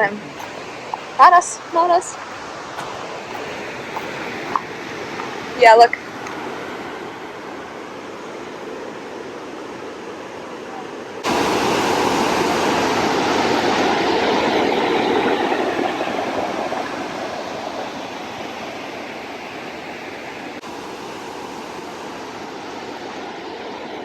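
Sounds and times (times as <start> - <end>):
waterfall and rushing river: 0.0 - 24.0.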